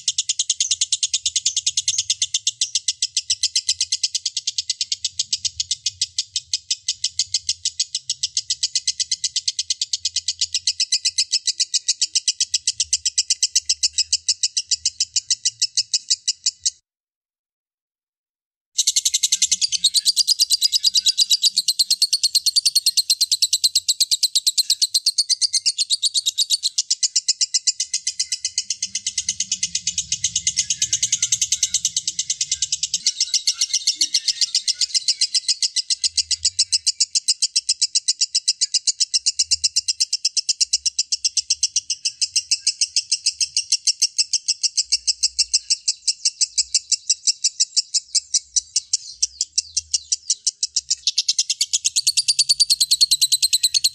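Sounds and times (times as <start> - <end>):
lovebird chattering trill: 0.0 - 16.8, 18.8 - 53.9.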